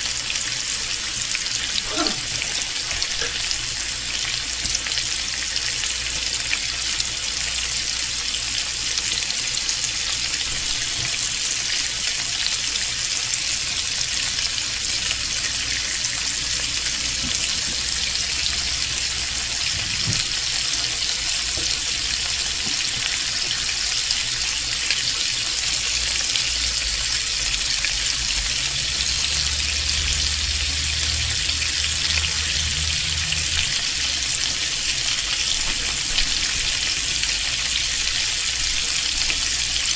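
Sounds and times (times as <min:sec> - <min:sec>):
bacon sizzling in a pan: 0:00.0 - 0:39.9.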